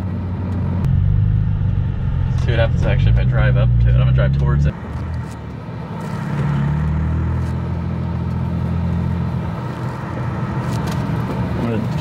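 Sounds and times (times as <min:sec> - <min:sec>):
car engine hum from cabin: 0:00.0 - 0:12.0.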